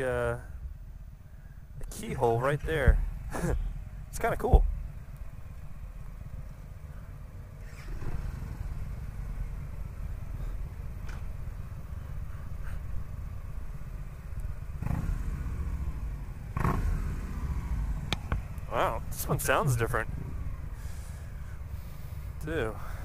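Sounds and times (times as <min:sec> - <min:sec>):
v-twin engine rumbling: 0:00.0 - 0:23.0.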